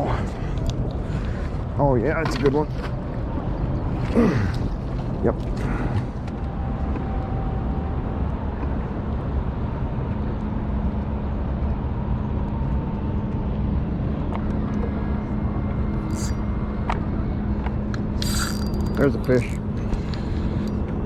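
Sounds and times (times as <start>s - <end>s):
boat motor humming: 0.0s - 9.4s, 13.1s - 21.0s.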